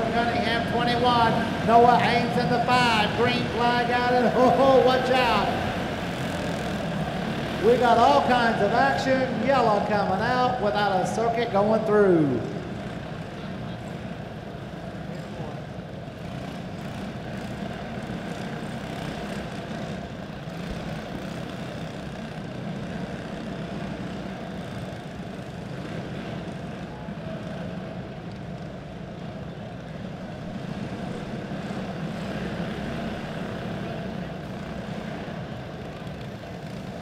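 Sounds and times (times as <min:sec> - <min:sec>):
kart engines droning: 0:00.0 - 0:37.0.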